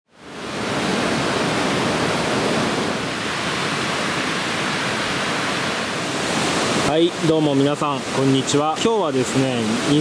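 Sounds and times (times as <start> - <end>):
river rushing: 0.1 - 10.0.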